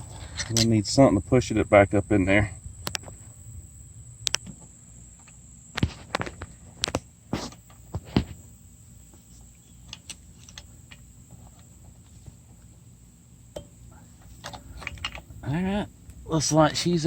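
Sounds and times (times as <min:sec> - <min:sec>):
faint high-pitched whine: 0:00.0 - 0:17.0.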